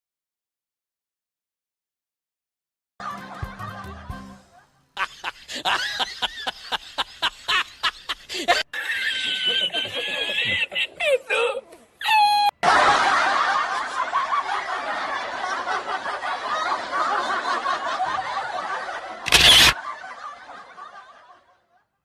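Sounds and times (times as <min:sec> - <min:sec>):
crowd laughing: 0:03.0 - 0:11.9, 0:12.5 - 0:22.0.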